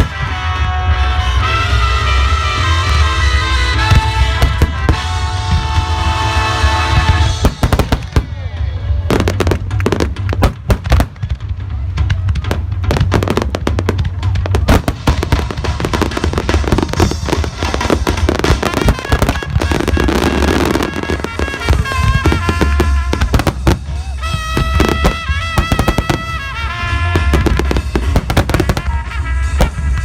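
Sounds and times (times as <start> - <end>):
fireworks bursting: 0.0 - 8.4, 9.0 - 30.0
fireworks crackling: 0.0 - 30.0
music with sustained notes: 0.0 - 30.0
low booms: 3.7 - 30.0.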